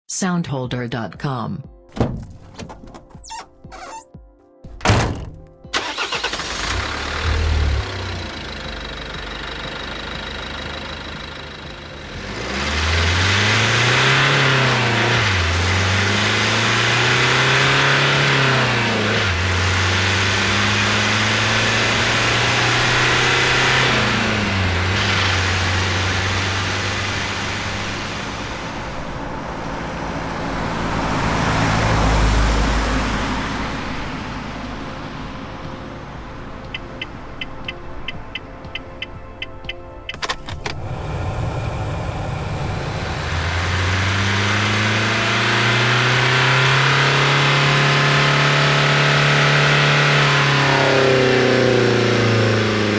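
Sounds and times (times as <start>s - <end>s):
diesel van engine: 1.9s - 4.0s, 4.7s - 52.9s.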